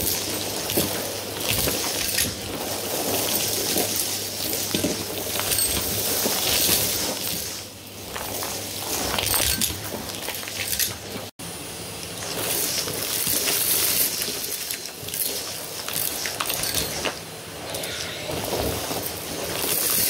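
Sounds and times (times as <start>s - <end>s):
small objects rattling up vacuum wand: 0.0s - 11.3s, 12.2s - 20.0s.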